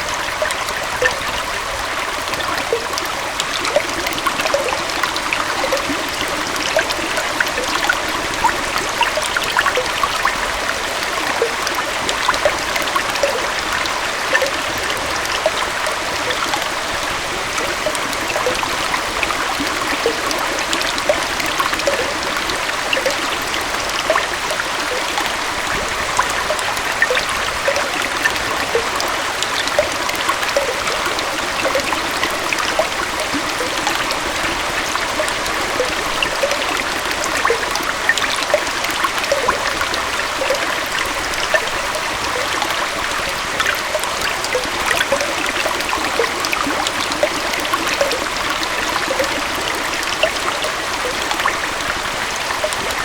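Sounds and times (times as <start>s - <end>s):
flowing water rushing: 0.0s - 53.0s
small water plops and splashes: 0.0s - 53.0s.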